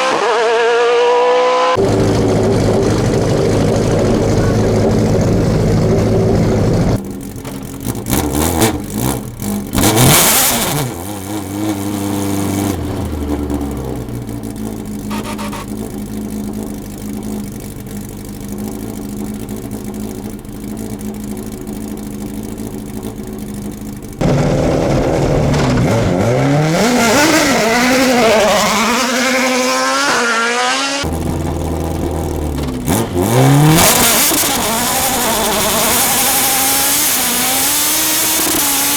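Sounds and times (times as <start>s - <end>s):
racing car engines revving: 0.0s - 38.9s.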